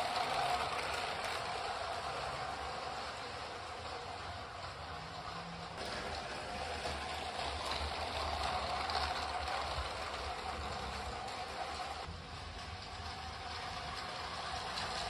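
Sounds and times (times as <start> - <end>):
plastic wheels rolling on track: 0.0 - 15.0
toy train motors whirring: 0.0 - 15.0.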